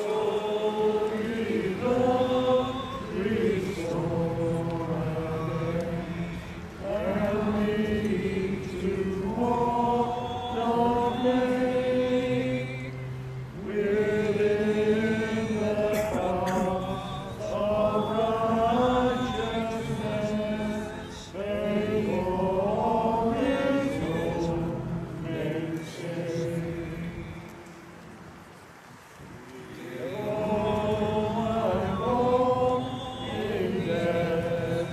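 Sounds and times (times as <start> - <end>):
crowd singing a hymn: 0.0 - 28.2, 29.3 - 34.9.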